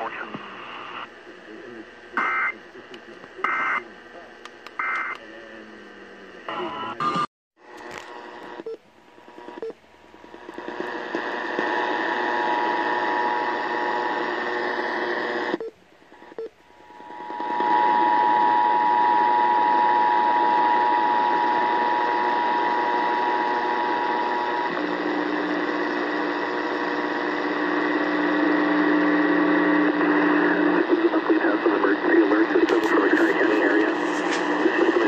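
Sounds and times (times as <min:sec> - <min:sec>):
radio static: 0:00.0 - 0:08.6, 0:10.2 - 0:15.6, 0:16.2 - 0:35.0.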